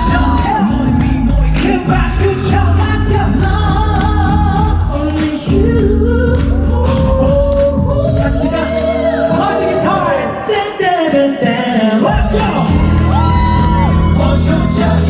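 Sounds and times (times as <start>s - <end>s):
band playing: 0.0s - 15.0s
person singing: 0.0s - 15.0s.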